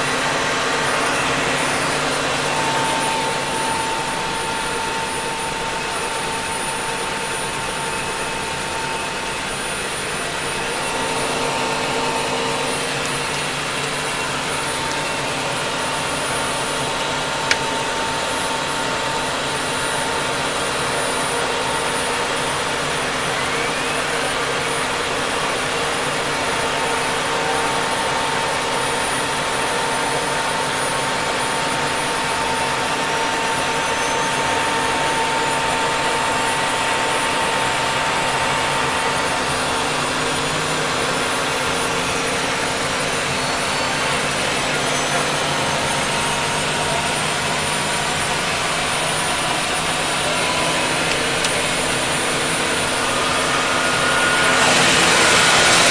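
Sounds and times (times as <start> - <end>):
helicopter turbine engines roaring: 0.0 - 55.9
high turbine whine: 0.0 - 55.9.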